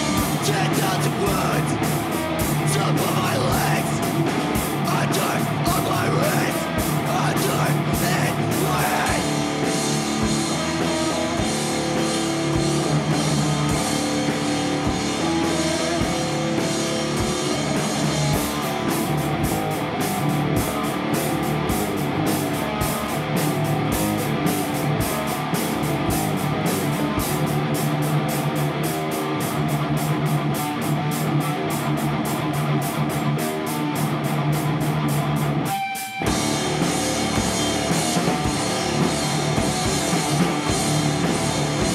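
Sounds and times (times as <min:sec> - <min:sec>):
punk rock band playing: 0:00.0 - 0:41.9.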